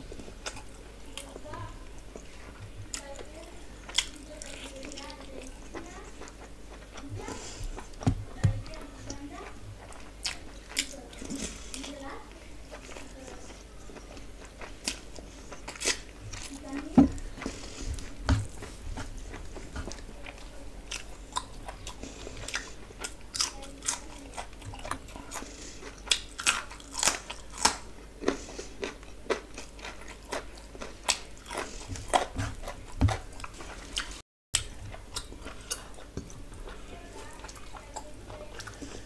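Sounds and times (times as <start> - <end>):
wet chewing and lip-smacking: 0.1 - 12.0, 12.7 - 39.0.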